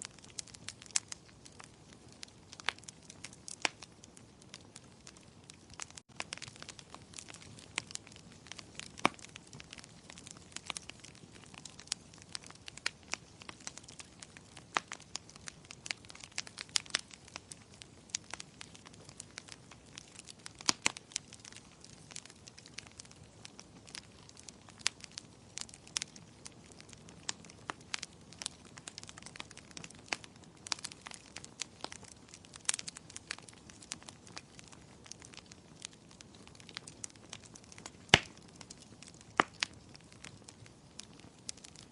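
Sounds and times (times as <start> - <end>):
faint hiss of flames: 0.0 - 41.9
wood fire crackling and popping: 0.0 - 41.9.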